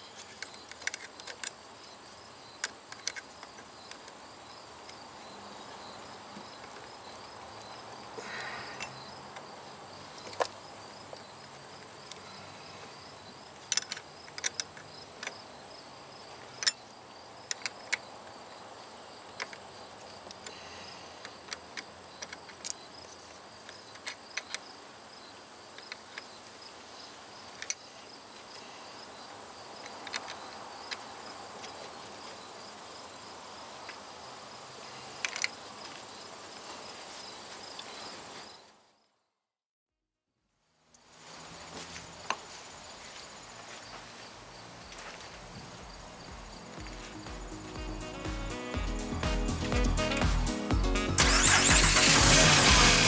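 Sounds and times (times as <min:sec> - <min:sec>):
insects chirping: 0:00.0 - 0:39.1, 0:40.7 - 0:50.7.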